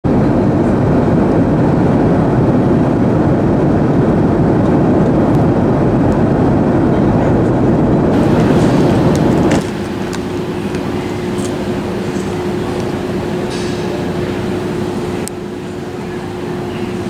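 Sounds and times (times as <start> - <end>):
airliner rushing noise: 0.1 - 17.0.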